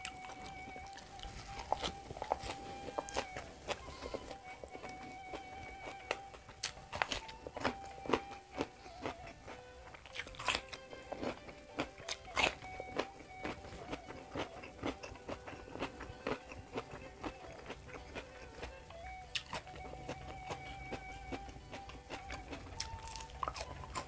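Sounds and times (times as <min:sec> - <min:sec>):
person crunching raw vegetable: 0:00.0 - 0:24.0
soft background music: 0:00.0 - 0:24.0.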